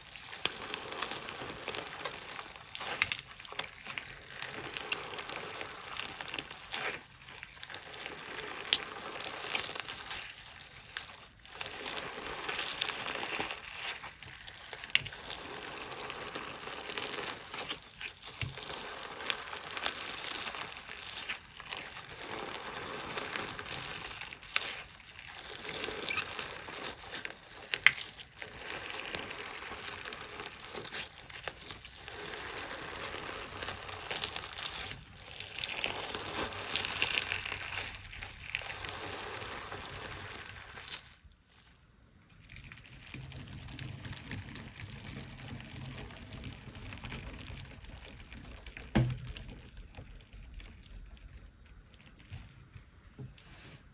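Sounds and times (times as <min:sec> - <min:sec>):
crunchy slime squished: 0:00.0 - 0:53.9.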